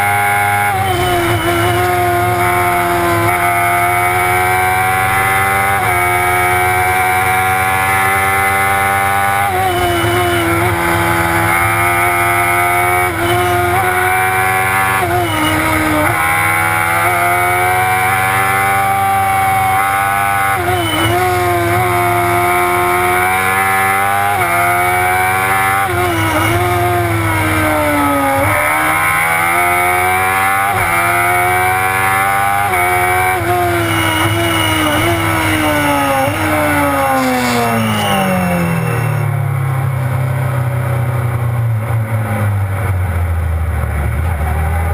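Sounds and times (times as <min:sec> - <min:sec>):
racing car engine revving: 0:00.0 - 0:44.9.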